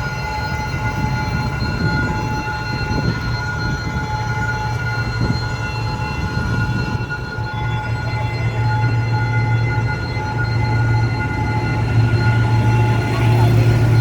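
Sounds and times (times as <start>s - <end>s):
locomotive engine rumble: 0.0s - 14.0s
train rolling noise: 0.0s - 14.0s.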